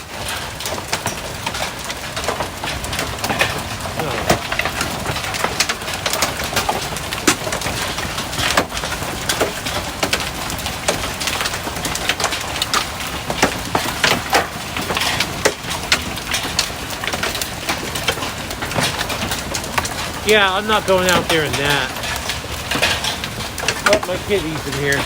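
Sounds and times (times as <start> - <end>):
hail pounding: 0.0 - 25.0.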